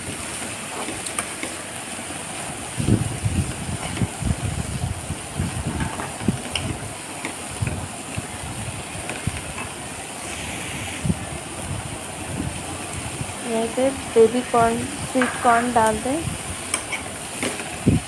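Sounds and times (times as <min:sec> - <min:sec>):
vegetables sizzling in a frying pan: 0:00.0 - 0:18.0.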